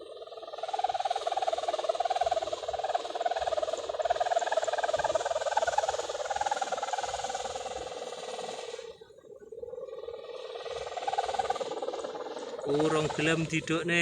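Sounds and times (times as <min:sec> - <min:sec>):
kite hummer droning: 0:00.0 - 0:14.0.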